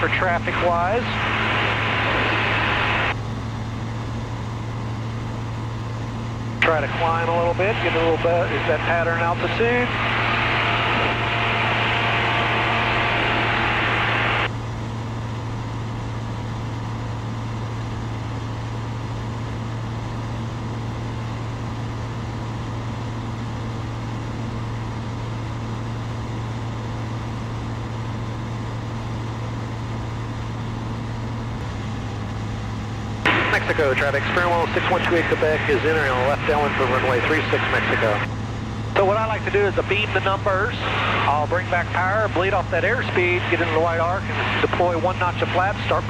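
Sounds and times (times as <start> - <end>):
aircraft engine and propeller drone: 0.0 - 46.0.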